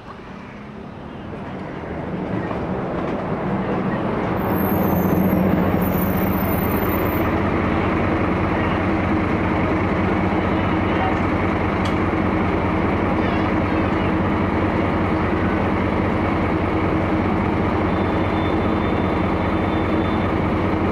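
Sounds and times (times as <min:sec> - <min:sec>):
bus engine droning: 0:00.0 - 0:20.9.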